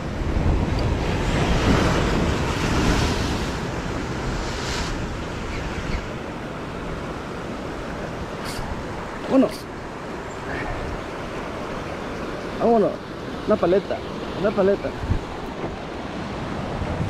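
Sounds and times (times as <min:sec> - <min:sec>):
wind on microphone: 0:00.0 - 0:12.6, 0:14.1 - 0:17.0
surf breaking over rocks: 0:00.2 - 0:17.0.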